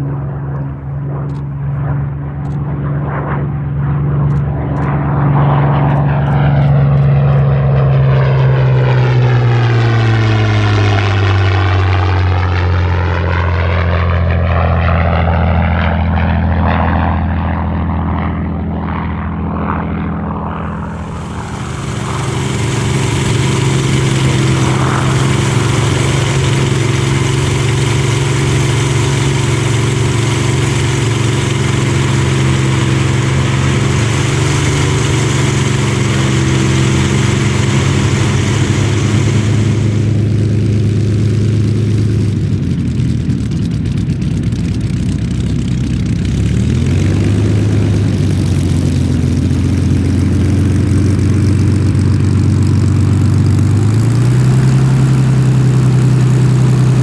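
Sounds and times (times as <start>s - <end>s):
propeller plane flying past: 0.0s - 57.0s
steady bright engine drone: 0.0s - 57.0s.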